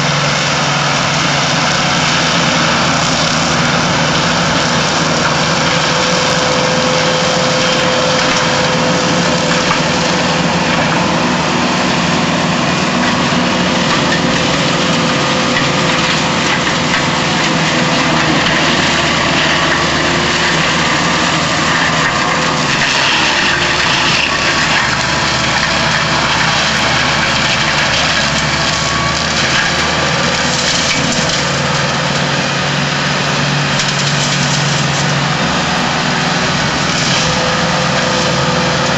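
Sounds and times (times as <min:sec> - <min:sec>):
mulcher rotor shredding brush: 0:00.0 - 0:38.9
tractor engine under load: 0:00.0 - 0:38.9.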